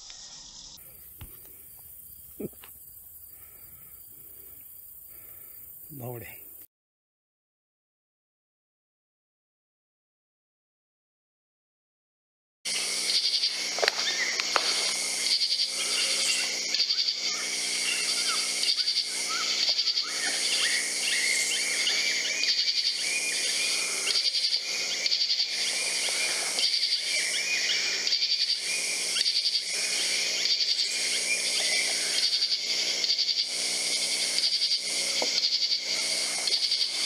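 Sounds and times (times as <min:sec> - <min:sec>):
insect chirps: 0:00.0 - 0:06.7, 0:12.7 - 0:37.0
insects trilling: 0:00.0 - 0:06.7, 0:12.7 - 0:37.0.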